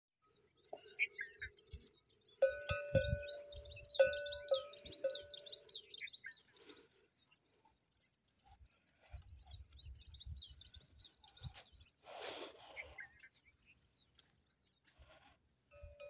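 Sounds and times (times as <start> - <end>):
small birds chirping: 0.2 - 16.0.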